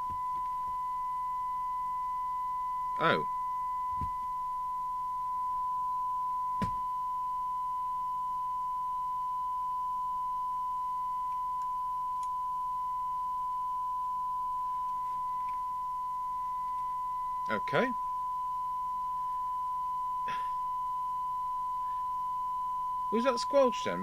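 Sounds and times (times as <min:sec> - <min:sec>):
steady test tone from loudspeaker: 0:00.0 - 0:24.0.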